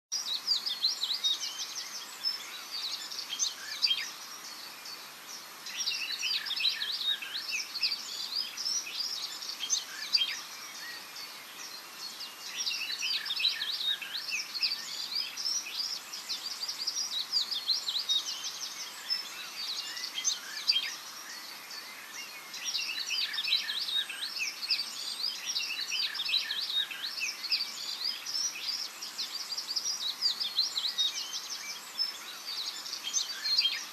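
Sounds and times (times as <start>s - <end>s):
faint outdoor hiss: 0.1s - 33.9s
songbirds chirping: 0.1s - 33.9s.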